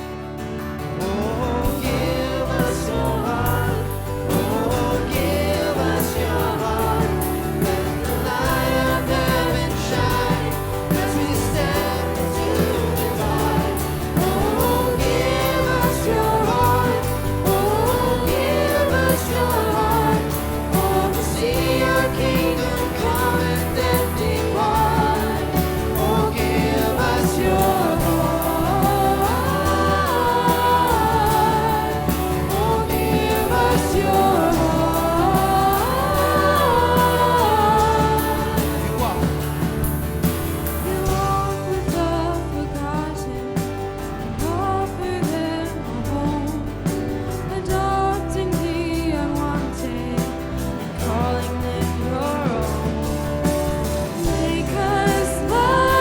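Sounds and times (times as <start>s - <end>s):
live worship band with singers: 0.0s - 56.0s
drum and cymbal beat: 1.2s - 56.0s.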